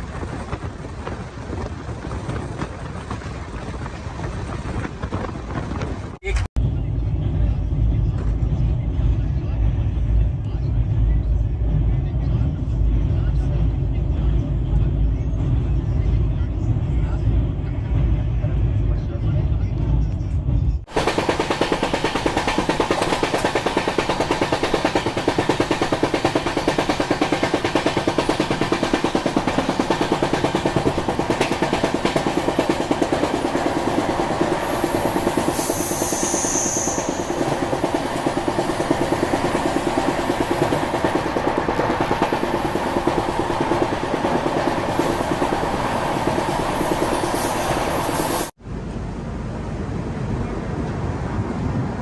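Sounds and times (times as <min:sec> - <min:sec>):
train wheels rumbling on rails: 0:00.0 - 0:16.9, 0:19.8 - 0:48.6.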